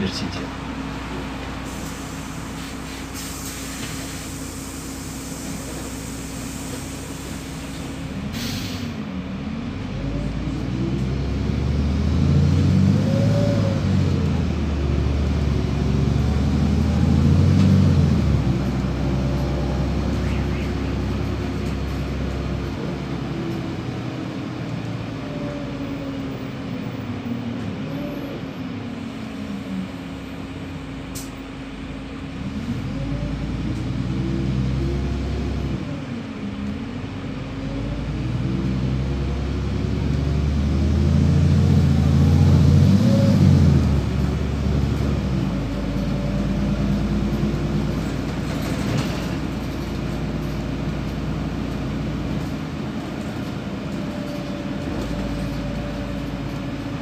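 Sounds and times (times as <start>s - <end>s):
bus engine: 0.0s - 57.0s
road noise: 0.0s - 57.0s.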